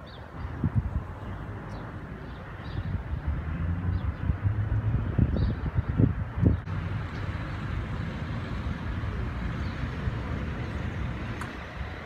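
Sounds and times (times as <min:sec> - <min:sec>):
city traffic hum: 0:00.0 - 0:12.0.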